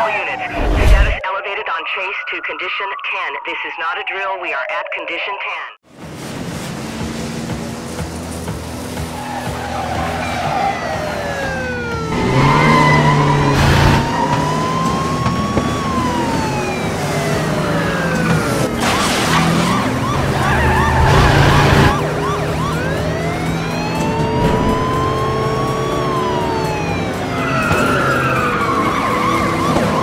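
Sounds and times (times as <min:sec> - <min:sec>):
police siren wailing: 0:00.0 - 0:04.5, 0:09.0 - 0:30.0
car engine surging: 0:05.9 - 0:30.0.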